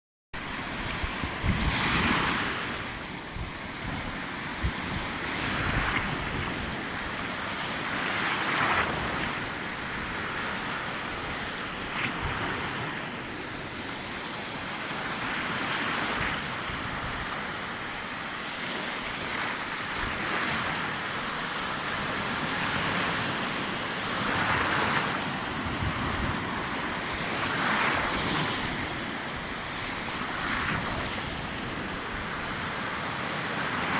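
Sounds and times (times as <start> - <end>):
sea waves breaking: 0.4 - 33.9.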